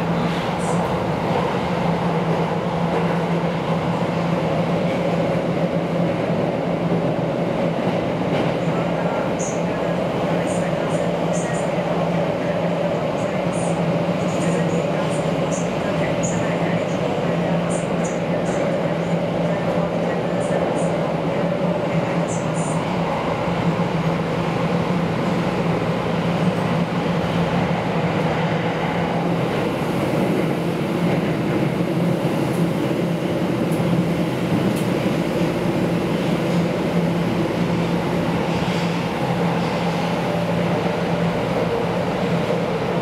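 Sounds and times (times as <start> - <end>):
train rumbling: 0.0 - 43.0.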